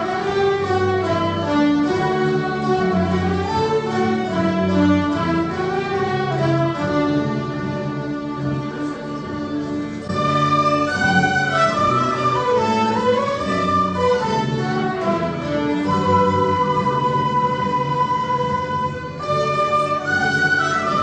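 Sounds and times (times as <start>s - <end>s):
folk ensemble playing slow tune: 0.0s - 21.0s.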